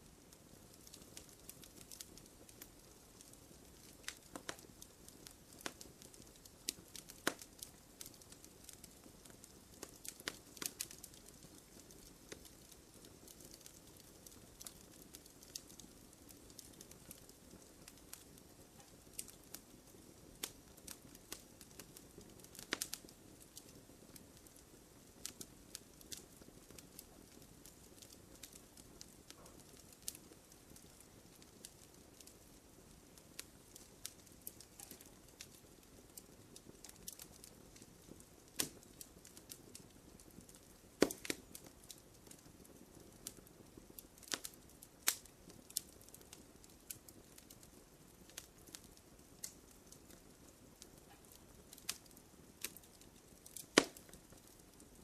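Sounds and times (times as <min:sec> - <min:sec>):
faint hiss of burning: 0:00.0 - 0:55.0
fire pops and snaps: 0:00.0 - 0:55.0.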